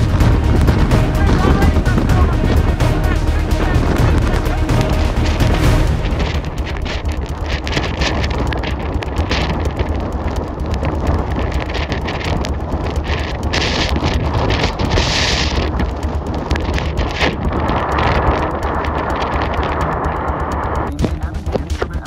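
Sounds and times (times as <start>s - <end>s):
blizzard wind buffeting microphone: 0.0s - 22.0s.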